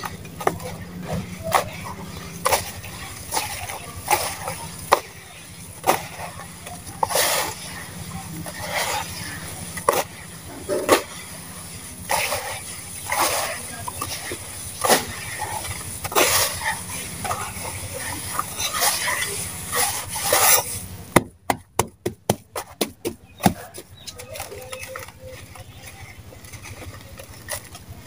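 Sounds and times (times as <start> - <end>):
gritty crunches of crumbling cement: 0.0 - 28.0.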